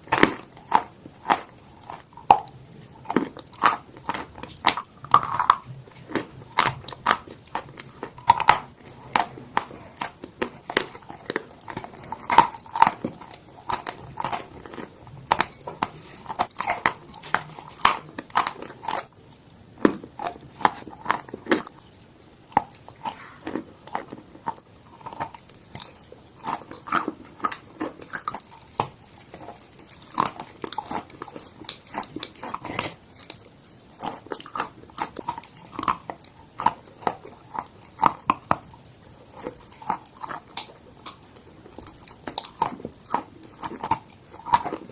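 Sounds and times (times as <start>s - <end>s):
chalk being bitten and chewed: 0.0s - 44.9s.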